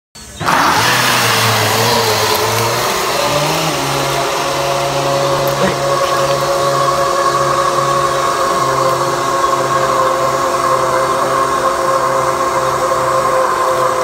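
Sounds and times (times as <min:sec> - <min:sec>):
held synth tones: 0:00.2 - 0:14.0
slow bass line: 0:00.4 - 0:14.0.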